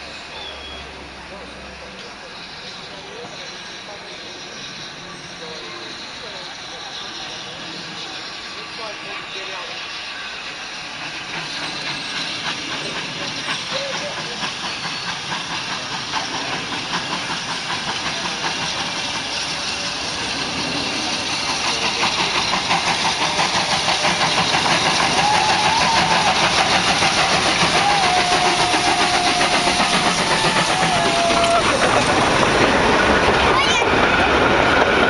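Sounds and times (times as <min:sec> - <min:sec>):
steam locomotive chuffing: 0:00.0 - 0:35.0.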